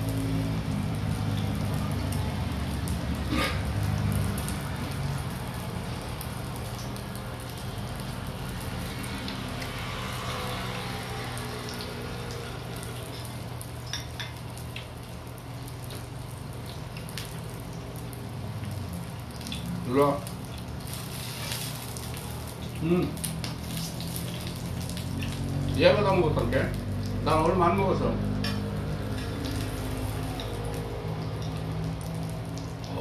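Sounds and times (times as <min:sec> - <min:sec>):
skewers sizzling in a pan: 0:00.0 - 0:33.0.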